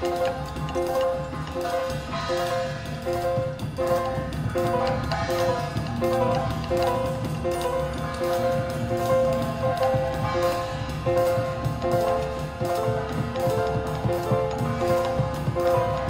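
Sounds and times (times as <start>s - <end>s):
drum kit with cymbals: 0.0s - 16.0s.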